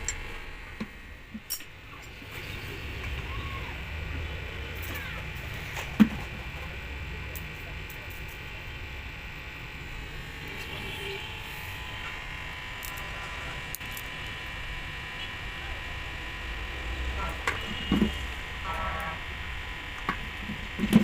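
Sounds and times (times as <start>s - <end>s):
steady electrical buzz: 0.0s - 21.0s.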